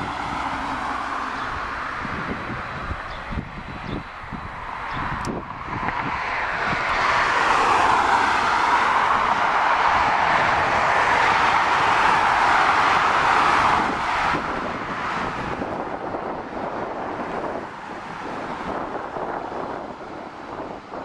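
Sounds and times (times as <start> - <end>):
jet engines at taxi power: 0.0 - 21.0.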